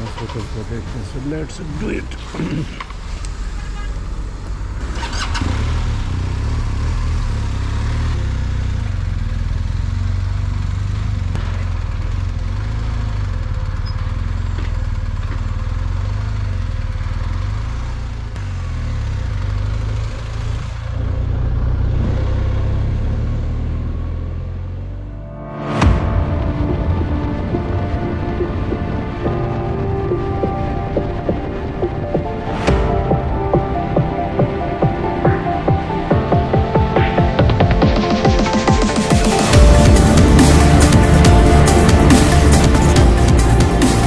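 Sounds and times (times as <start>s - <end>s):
motorcycle engine rumble: 0.0s - 44.0s.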